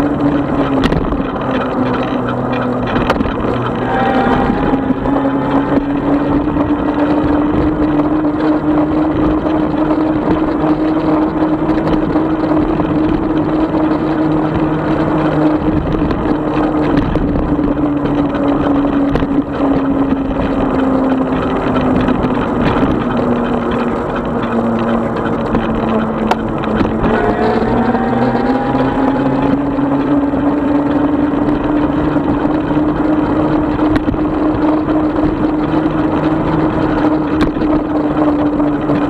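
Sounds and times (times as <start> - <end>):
electric bike motor whining: 0.0 - 39.0
tyre and wind noise: 0.0 - 39.0.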